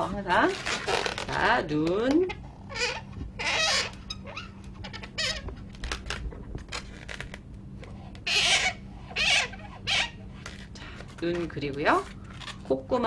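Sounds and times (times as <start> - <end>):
balloons squeaking and rubbing: 0.0 - 1.7, 2.3 - 7.5, 8.2 - 12.7.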